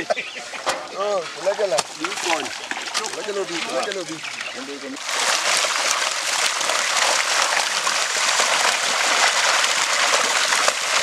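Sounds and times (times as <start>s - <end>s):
fish thrashing and splashing: 1.4s - 11.0s.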